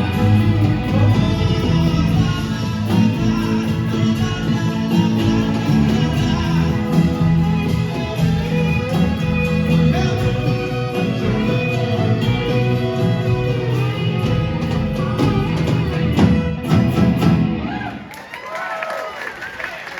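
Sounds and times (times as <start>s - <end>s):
live folk-rock band playing: 0.0s - 18.1s
audience noise: 0.0s - 19.9s.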